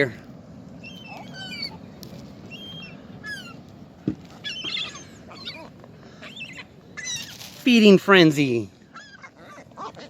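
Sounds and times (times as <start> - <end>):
birds squawking and chirping: 0.0 - 10.0.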